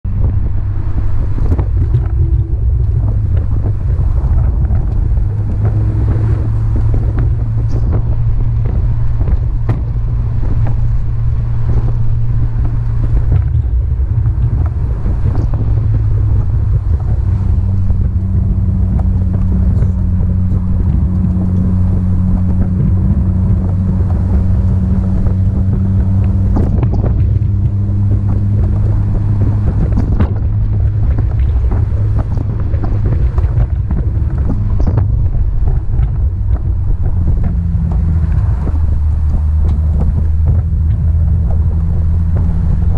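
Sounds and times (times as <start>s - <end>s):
car engine running: 0.0s - 42.9s
wind and road noise: 0.0s - 42.9s.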